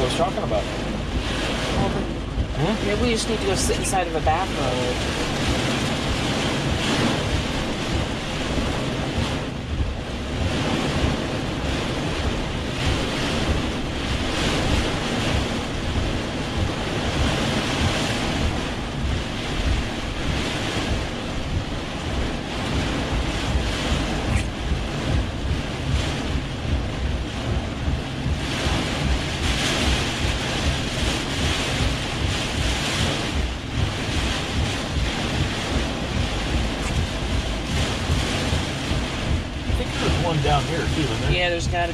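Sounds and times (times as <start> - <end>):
gusting wind: 0.0 - 41.9
heavy rain on a vehicle: 0.0 - 41.9.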